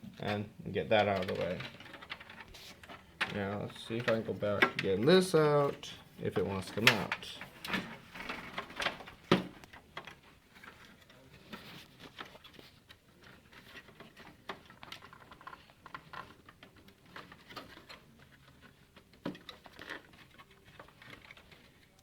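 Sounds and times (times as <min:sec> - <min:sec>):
computer parts clicking and rattling: 0:00.2 - 0:22.0.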